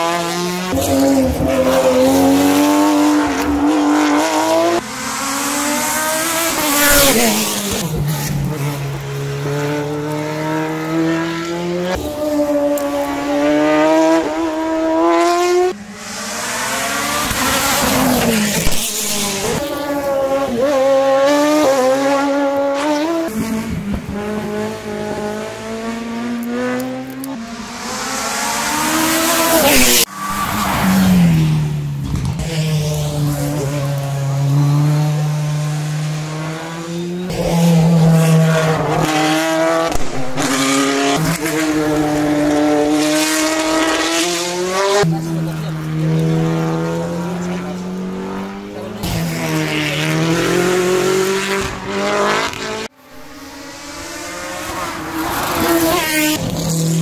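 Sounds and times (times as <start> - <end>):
race cars accelerating past: 0.0 - 57.0.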